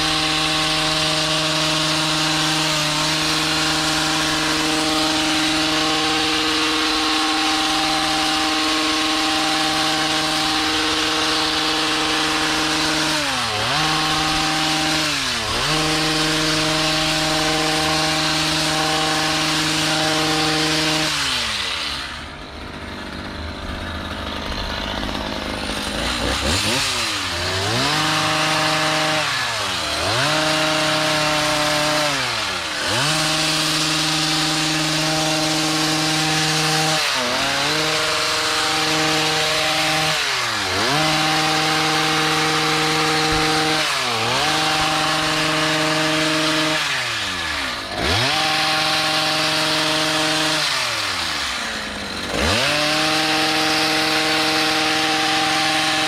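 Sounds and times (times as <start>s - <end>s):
hedge trimmer engine revving: 0.0s - 56.0s.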